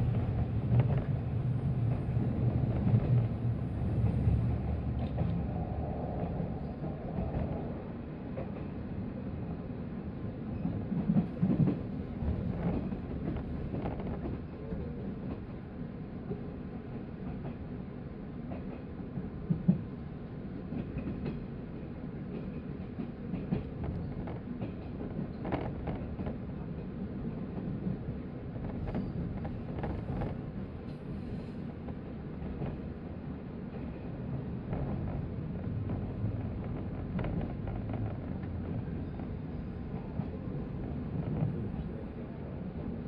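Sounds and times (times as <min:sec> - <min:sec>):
rail joint clicks and knocks: 0:00.0 - 0:08.8, 0:10.6 - 0:15.6, 0:18.5 - 0:20.0, 0:20.6 - 0:33.0, 0:33.7 - 0:42.1
train wheels rumbling on rail: 0:00.0 - 0:43.0.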